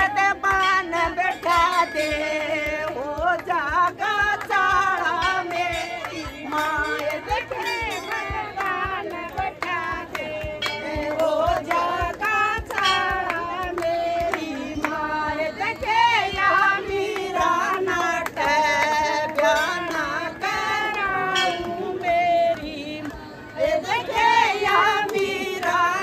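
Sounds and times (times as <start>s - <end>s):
hand claps: 0.0s - 26.0s
women singing in a group: 0.0s - 26.0s.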